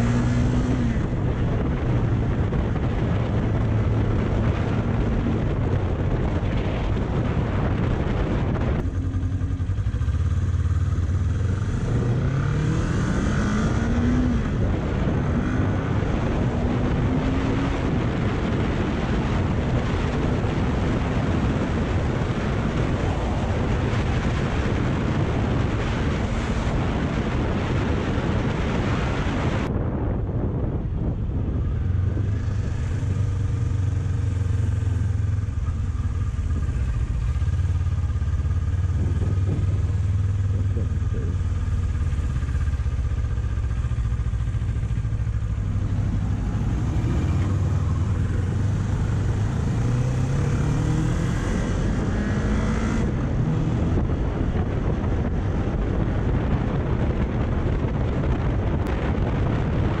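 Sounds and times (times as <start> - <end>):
motorcycle engine idling and accelerating: 0.0 - 60.0
wind noise on microphone: 0.0 - 60.0.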